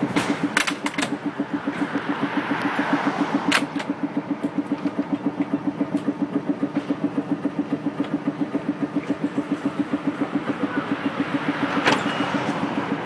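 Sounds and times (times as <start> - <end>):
streetcar mechanical throb: 0.0 - 13.0.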